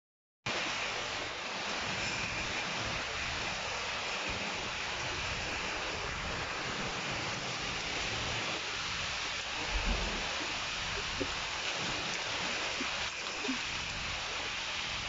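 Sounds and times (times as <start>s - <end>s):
heavy rain on leaves and water: 0.5s - 15.0s
wind rumble on microphone: 0.6s - 15.0s.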